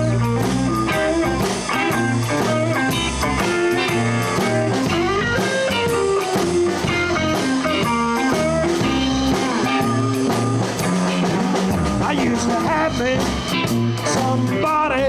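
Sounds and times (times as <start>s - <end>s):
bass guitar: 0.0s - 15.0s
electric guitar lead lines: 0.0s - 15.0s
steady drum beat: 0.0s - 15.0s.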